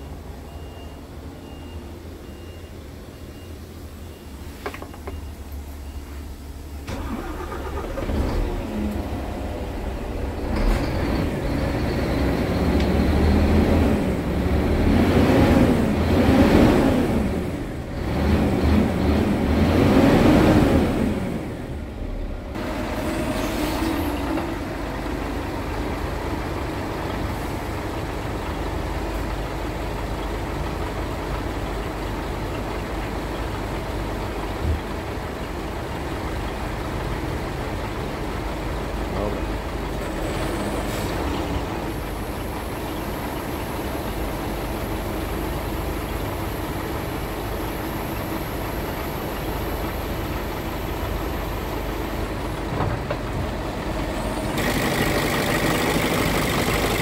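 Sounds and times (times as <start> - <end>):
truck diesel engine revving: 6.9 - 32.4, 35.2 - 57.0.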